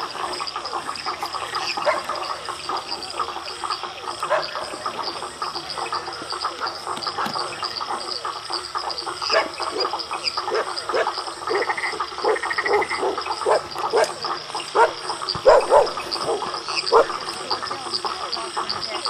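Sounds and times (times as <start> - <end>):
frogs croaking: 0.0 - 19.0.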